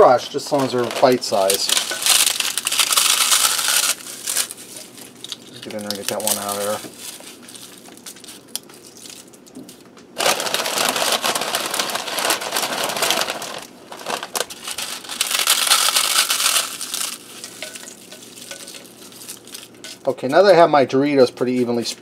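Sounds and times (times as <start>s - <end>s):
tortilla chips crunching: 0.4s - 20.1s.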